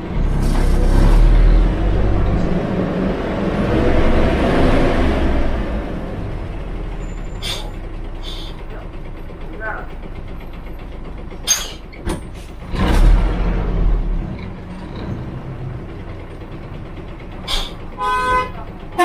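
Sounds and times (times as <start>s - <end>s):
bus engine running: 0.0s - 19.0s.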